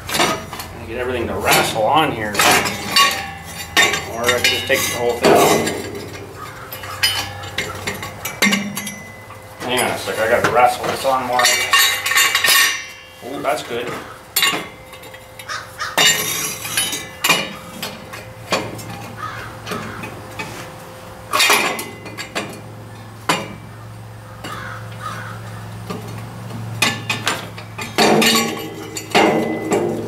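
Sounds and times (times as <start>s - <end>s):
low steady hum: 0.0s - 30.0s
metal clanks and scrapes: 0.0s - 30.0s.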